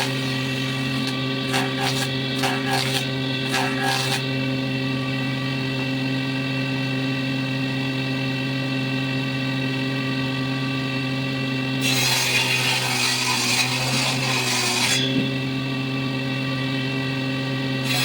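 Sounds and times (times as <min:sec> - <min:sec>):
electric saw cutting wood: 0:00.0 - 0:18.0.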